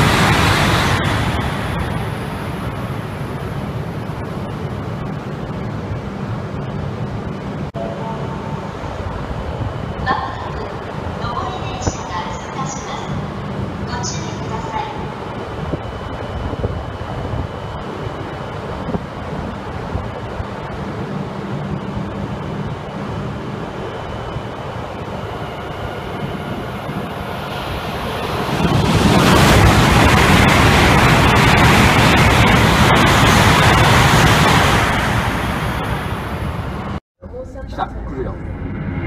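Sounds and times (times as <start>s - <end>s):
steady background hum: 0.0s - 39.0s
train passing at speed: 0.0s - 39.0s.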